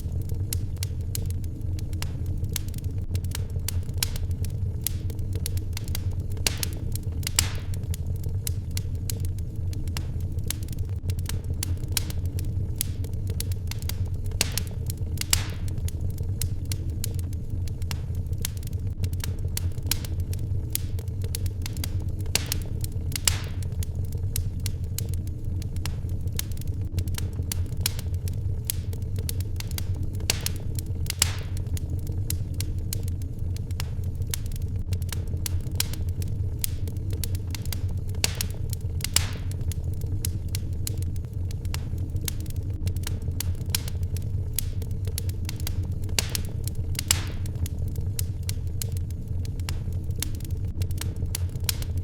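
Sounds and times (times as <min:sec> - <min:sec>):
low rumble of fire: 0:00.0 - 0:52.0
wood fire crackling and popping: 0:00.0 - 0:52.0.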